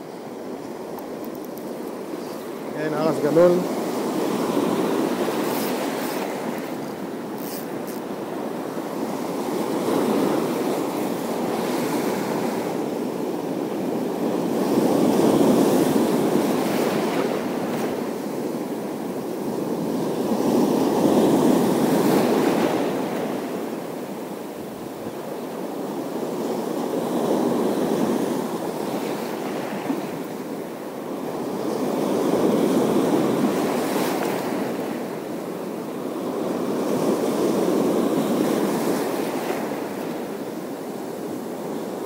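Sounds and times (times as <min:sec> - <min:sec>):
sea waves washing ashore: 0:00.0 - 0:42.0.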